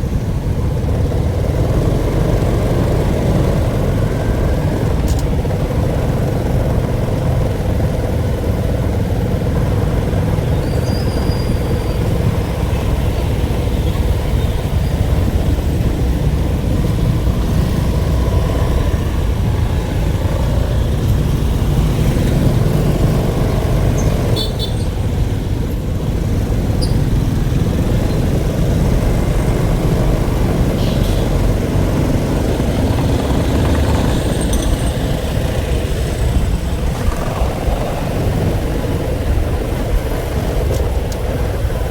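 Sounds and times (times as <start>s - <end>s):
loud vehicle rumble: 0.0s - 41.9s.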